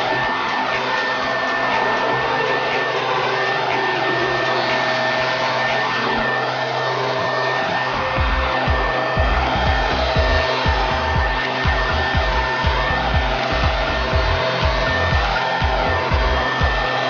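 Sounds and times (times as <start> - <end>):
leaf blower whining: 0.0 - 17.0.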